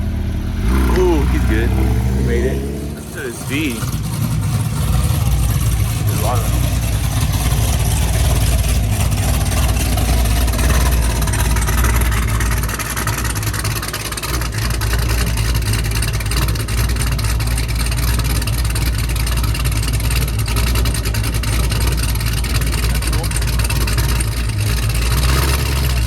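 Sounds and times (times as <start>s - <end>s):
car engines rumbling: 0.0s - 26.0s.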